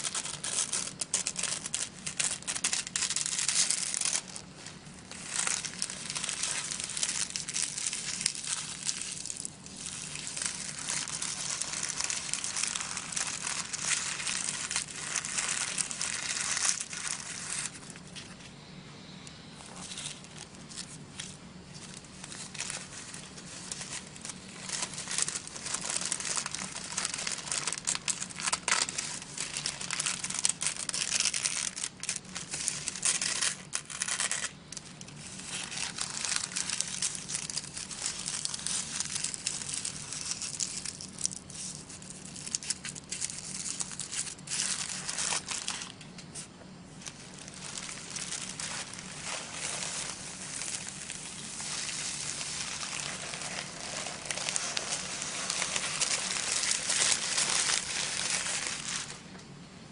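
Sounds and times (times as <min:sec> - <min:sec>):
tissue paper crinkling and tearing: 0:00.0 - 0:59.3.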